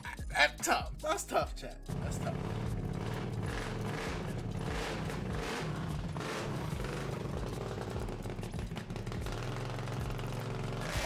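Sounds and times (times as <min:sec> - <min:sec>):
atv engine revving: 0:01.9 - 0:11.0.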